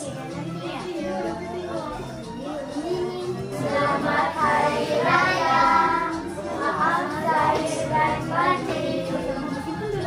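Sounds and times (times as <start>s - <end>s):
child singing: 0.0s - 10.0s.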